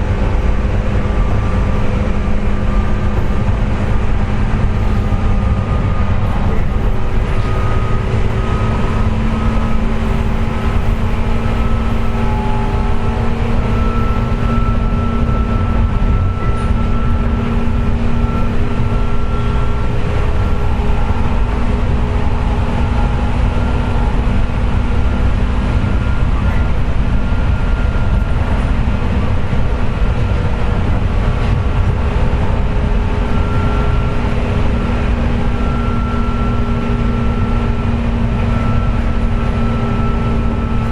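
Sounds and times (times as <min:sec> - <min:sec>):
steady whining tones: 0:00.0 - 0:40.9
train rolling rumble: 0:00.0 - 0:40.9.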